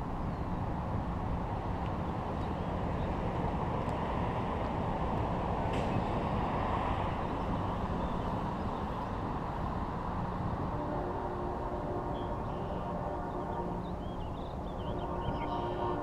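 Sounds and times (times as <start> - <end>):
train cars rumbling over bridge: 0.0 - 16.0.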